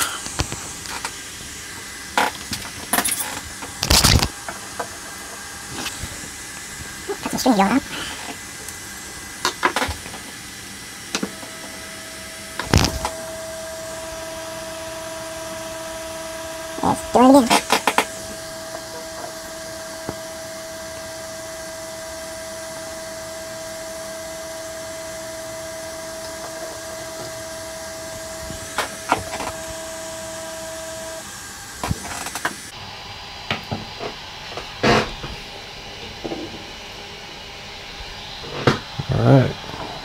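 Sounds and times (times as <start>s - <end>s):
stepper motor whine: 0.0s - 40.0s.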